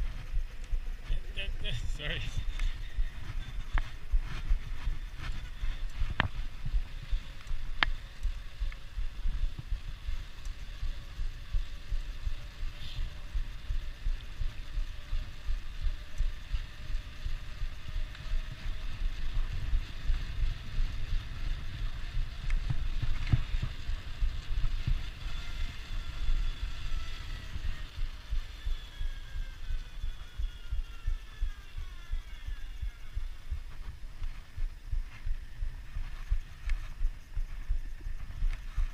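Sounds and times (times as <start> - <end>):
faint whining tones sliding down: 0.0 - 38.9
wind buffeting microphone: 0.0 - 38.9.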